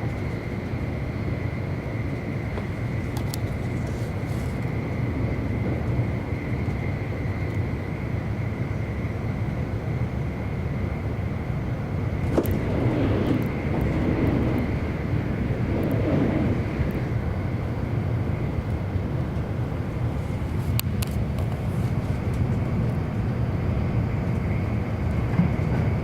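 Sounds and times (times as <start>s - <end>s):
thin steady whine: 0.0s - 21.0s
train wheels rumbling on rail: 0.0s - 26.0s.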